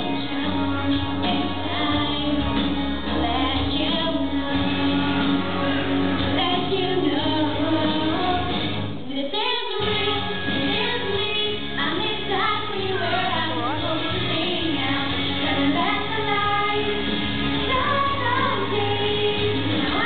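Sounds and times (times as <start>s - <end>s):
instrumental accompaniment with bass: 0.0s - 9.1s, 9.8s - 20.0s
women singing into microphones: 0.0s - 20.0s.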